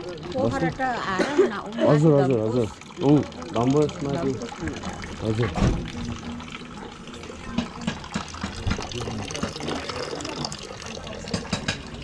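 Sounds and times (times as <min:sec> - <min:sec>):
water running into plastic bucket: 0:00.0 - 0:12.0.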